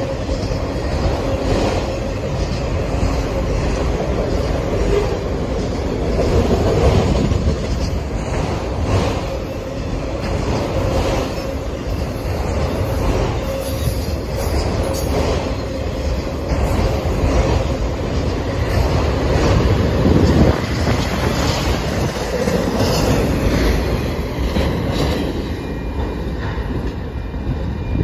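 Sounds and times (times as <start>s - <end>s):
freight cars rumbling on rails: 0.0s - 28.0s.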